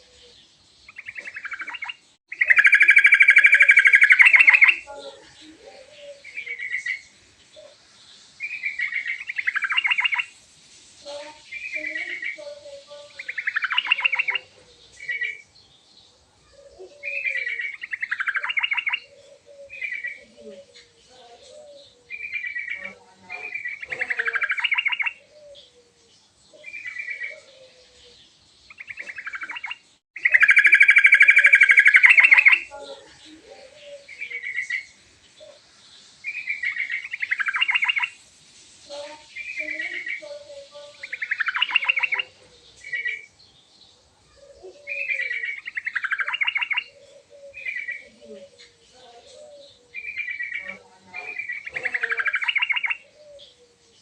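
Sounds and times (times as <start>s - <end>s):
bulbul singing: 0.0s - 10.4s, 11.0s - 15.5s, 16.5s - 38.2s, 38.9s - 54.0s
bird trill: 0.9s - 7.7s, 8.4s - 10.3s, 11.5s - 15.5s, 16.5s - 20.8s, 21.6s - 25.8s, 26.6s - 35.6s, 36.2s - 38.2s, 39.2s - 43.4s, 44.3s - 53.7s.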